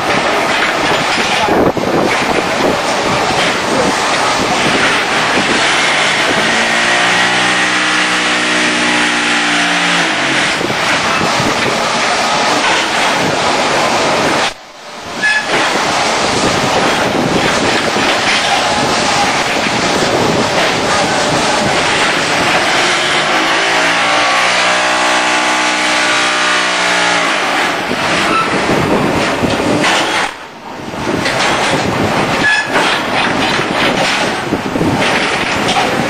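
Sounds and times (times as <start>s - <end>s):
machinery clattering and rattling: 0.0s - 14.6s, 15.2s - 36.0s.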